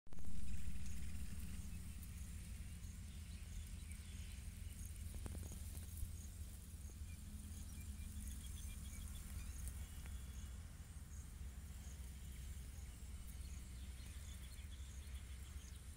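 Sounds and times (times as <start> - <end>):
steady low rumble: 0.1 - 15.9
insects chirping: 0.2 - 15.9.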